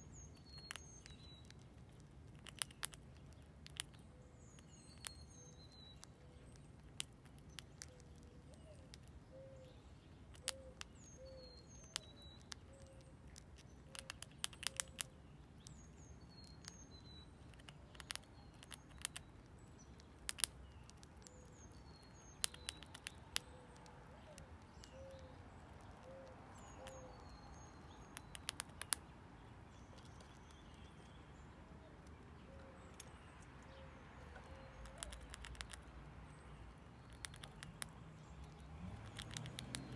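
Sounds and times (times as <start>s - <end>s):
birds chirping: 0.0s - 39.9s
squirrel gnawing corn kernels: 0.0s - 39.9s.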